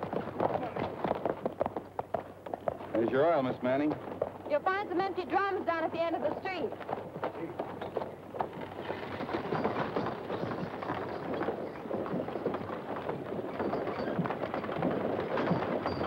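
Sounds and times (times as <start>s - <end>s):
hooves clattering: 0.0s - 16.0s
wagon wheels rumbling: 0.0s - 16.0s.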